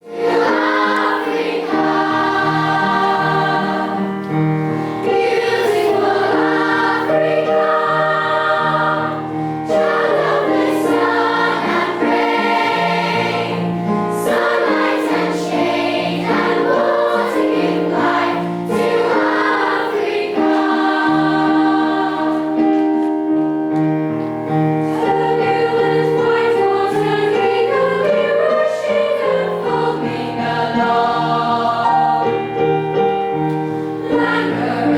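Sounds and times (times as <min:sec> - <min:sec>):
choir singing in harmony: 0:00.0 - 0:23.1, 0:24.6 - 0:34.9.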